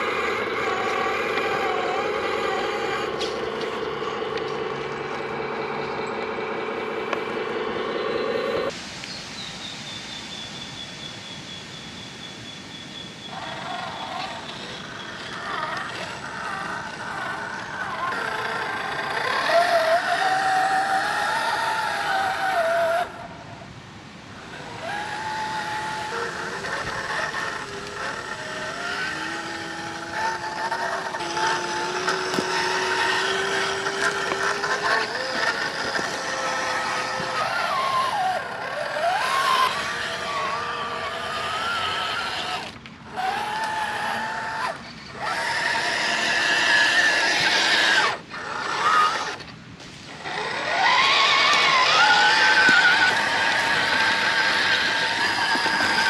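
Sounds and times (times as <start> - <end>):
toy truck motor revving: 0.0 - 8.8, 13.3 - 23.1, 24.5 - 56.0.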